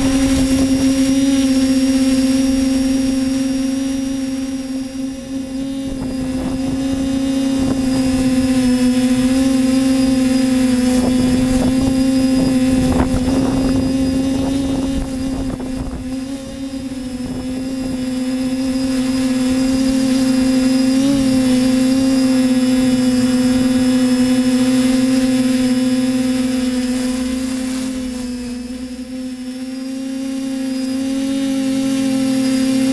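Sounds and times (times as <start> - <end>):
machine motor humming: 0.0 - 32.9.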